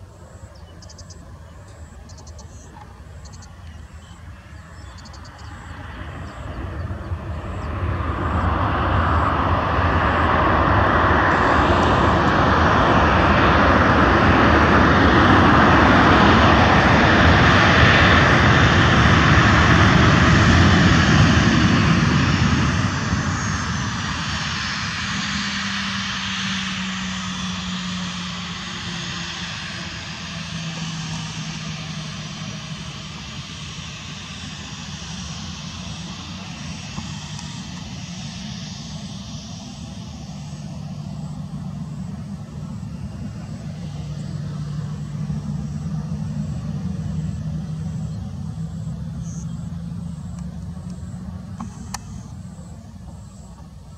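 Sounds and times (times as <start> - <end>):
jet engines reverse thrust roar: 0.0 - 53.9
low steady engine hum: 0.0 - 53.9.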